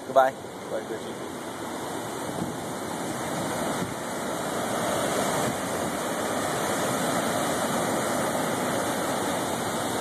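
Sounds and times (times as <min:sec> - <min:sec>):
surf breaking on rocky shore: 0:01.3 - 0:10.0.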